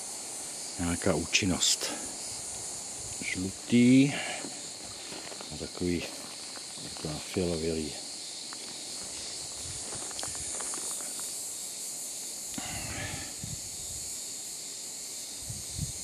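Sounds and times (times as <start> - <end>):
faint ticks and rustles: 0.0 - 16.0
insect chorus shrilling: 0.0 - 16.0.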